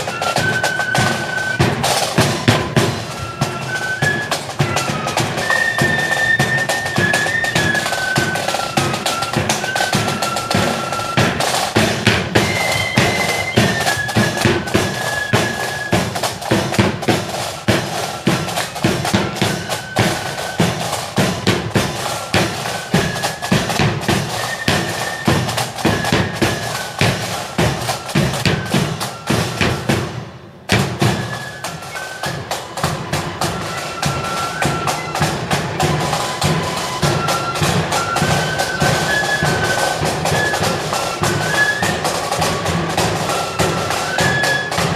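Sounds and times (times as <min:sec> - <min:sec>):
flute melody: 0:00.0 - 0:44.9
snare drum rolls: 0:00.0 - 0:44.9.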